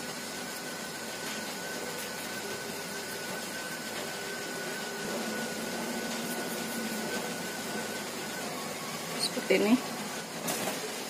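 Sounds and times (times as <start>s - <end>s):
high steady whine: 0.0s - 11.0s
machine hum and hiss: 0.0s - 11.0s.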